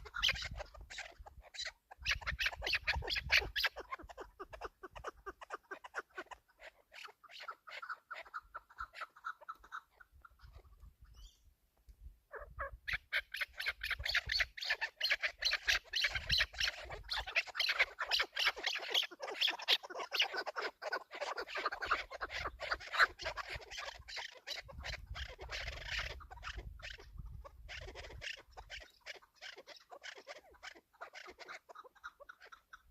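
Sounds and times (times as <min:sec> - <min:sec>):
partridges clucking and chattering: 0:00.0 - 0:06.6, 0:12.9 - 0:32.9.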